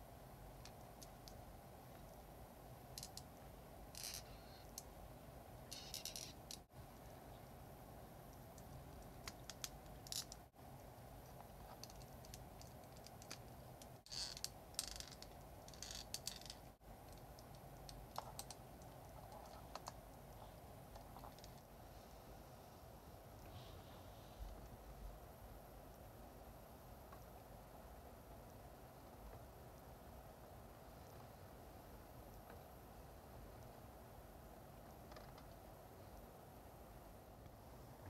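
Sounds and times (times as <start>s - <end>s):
faint steady background hum: 0.0s - 38.0s.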